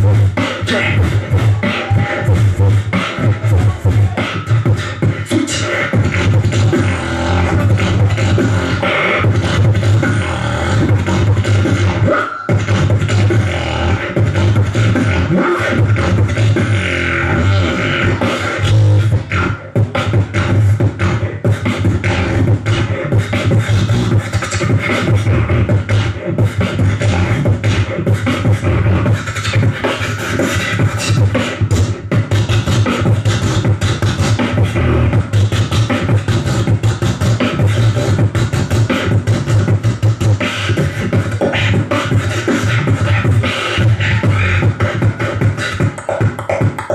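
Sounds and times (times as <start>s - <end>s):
beatboxing into microphone: 0.0s - 46.9s.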